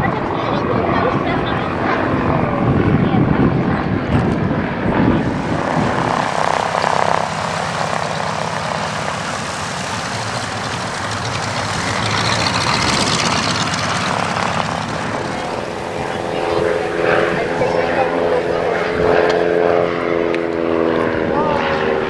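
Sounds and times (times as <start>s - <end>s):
propeller aircraft flying past: 0.0s - 22.0s.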